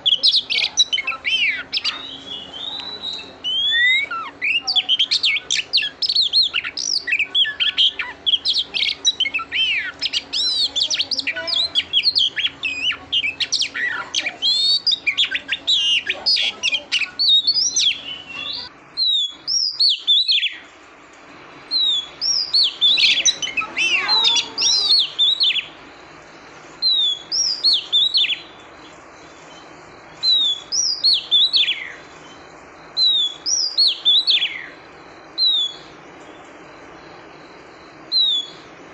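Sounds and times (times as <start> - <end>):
bird singing whistled trills: 0.0 - 20.7, 21.7 - 26.1, 26.8 - 38.8.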